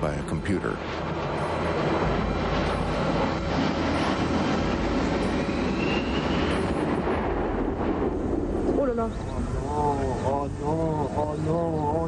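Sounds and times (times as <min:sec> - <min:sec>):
faint engine whine: 0:00.0 - 0:12.0
jet engine rumble: 0:00.0 - 0:12.0.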